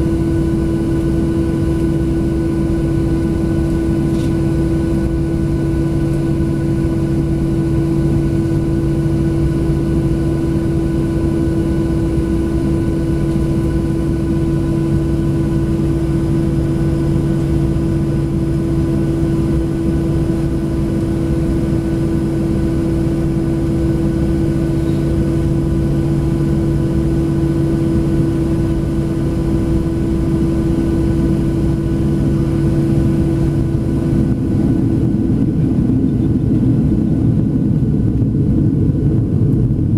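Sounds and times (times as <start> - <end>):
aircraft cabin engine hum: 0.0 - 39.9.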